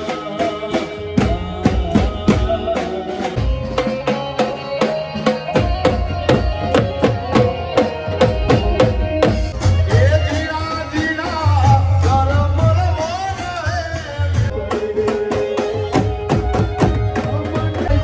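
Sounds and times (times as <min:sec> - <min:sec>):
held melody line: 0:00.0 - 0:18.0
tom drums and dhol beat: 0:00.0 - 0:18.0.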